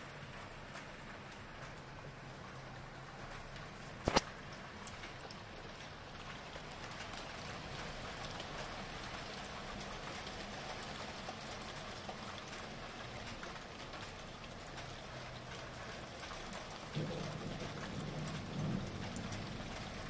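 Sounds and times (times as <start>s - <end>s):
raindrops ticking on surfaces: 0.0s - 20.0s
steady rain falling: 0.0s - 20.0s.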